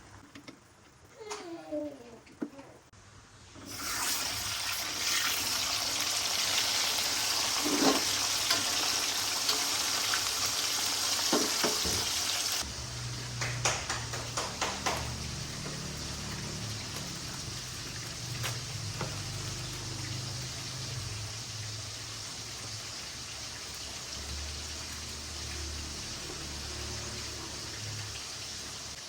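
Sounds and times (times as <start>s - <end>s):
water running from a tap: 3.6s - 29.0s.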